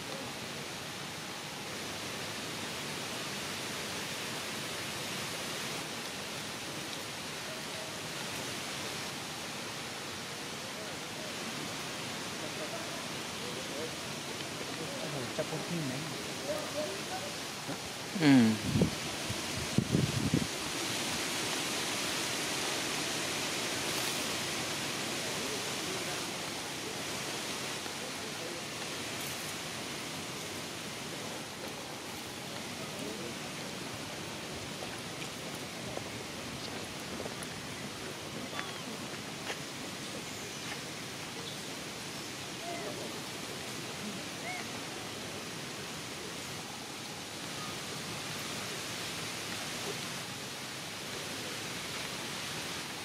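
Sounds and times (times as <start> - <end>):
outdoor background hiss: 0.0 - 53.0.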